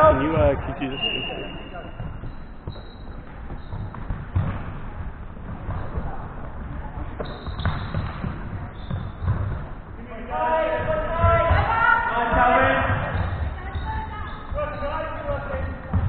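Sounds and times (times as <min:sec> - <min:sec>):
ball bouncing on hall floor: 0:00.0 - 0:16.0.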